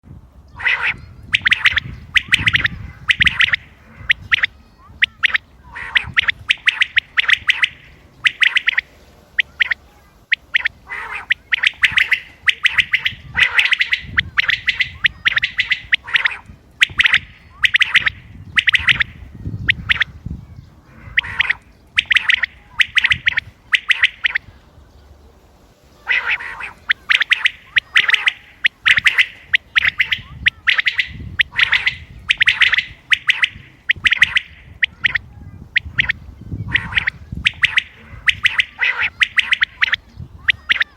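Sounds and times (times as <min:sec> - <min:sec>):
quail calling: 0:00.5 - 0:24.5, 0:26.0 - 0:40.9.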